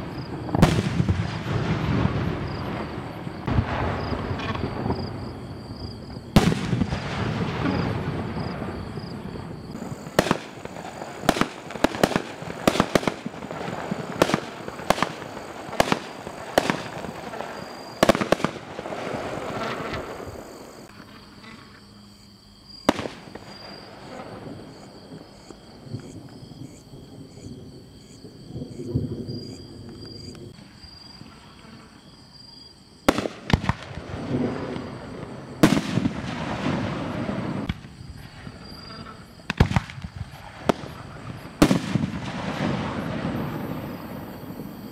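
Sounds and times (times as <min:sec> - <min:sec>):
firework bangs: 0:00.0 - 0:20.9, 0:22.8 - 0:26.2, 0:33.1 - 0:44.9.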